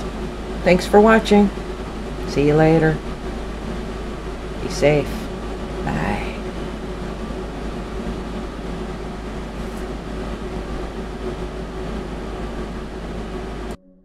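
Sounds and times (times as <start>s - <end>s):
fan hum and hiss: 0.0s - 13.8s.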